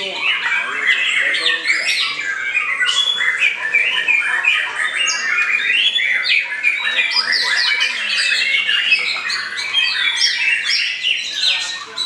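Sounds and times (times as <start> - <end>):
other songbirds singing: 0.0 - 12.0.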